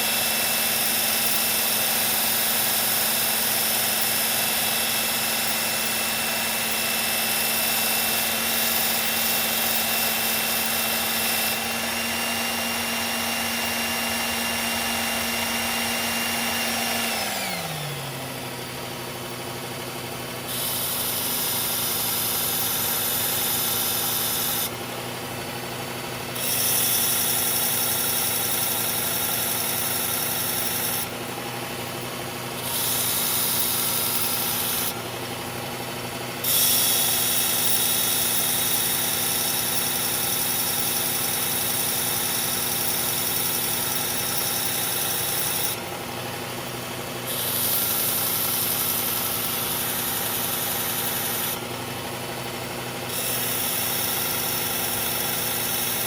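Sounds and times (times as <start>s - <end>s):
belt grinder grinding knife blade: 0.0s - 25.0s, 26.2s - 56.0s.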